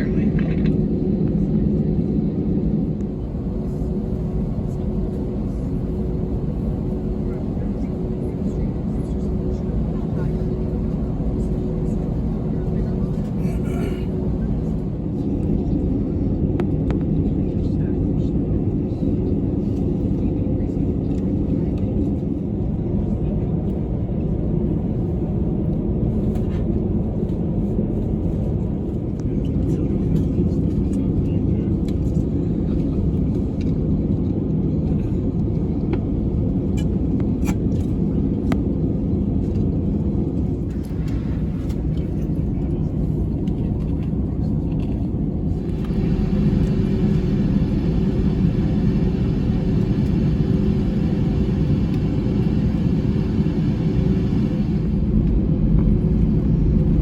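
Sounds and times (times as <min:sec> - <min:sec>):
aircraft cabin engine rumble: 0:00.0 - 0:57.0
constant hum: 0:00.0 - 0:57.0.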